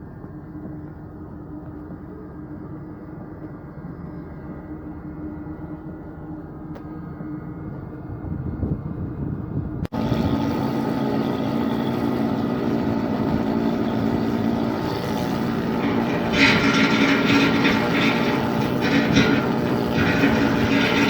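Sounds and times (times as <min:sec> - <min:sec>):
ship engine droning: 0:00.0 - 0:21.0.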